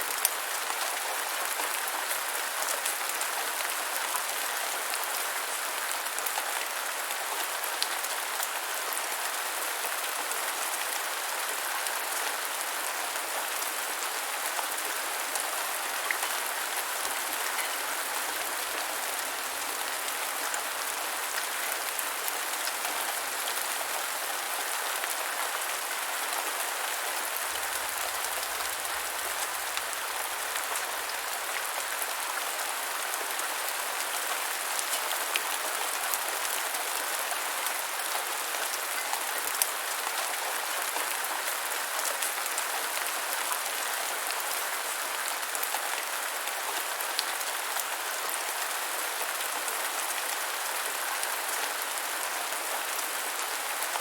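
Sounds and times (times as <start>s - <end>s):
rain falling on ground: 0.0s - 54.0s.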